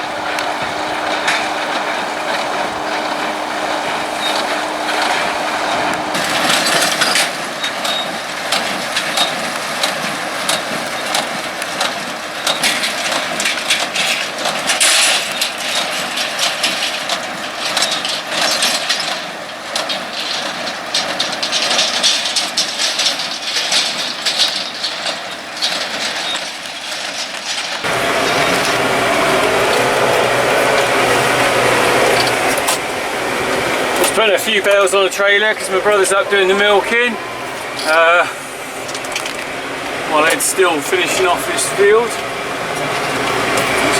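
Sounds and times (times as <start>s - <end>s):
machine humming: 0.0s - 20.3s, 27.8s - 43.9s
dry hay crackling and rustling: 0.0s - 43.9s.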